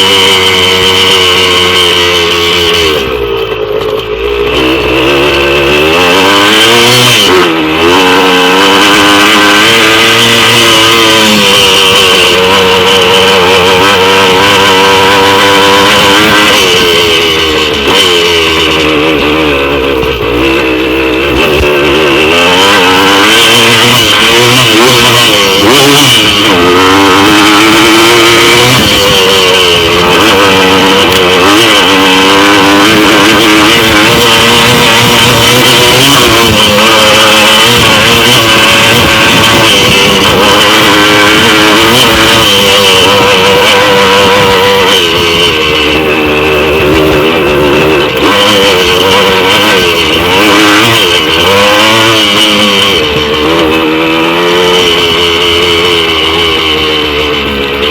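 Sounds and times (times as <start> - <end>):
two-stroke engine revving: 0.0 - 57.9.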